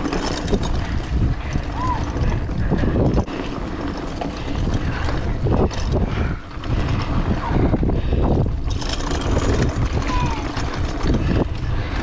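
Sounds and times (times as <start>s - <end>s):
bike rattling: 0.0s - 12.0s
wind rumble on microphone: 0.0s - 12.0s.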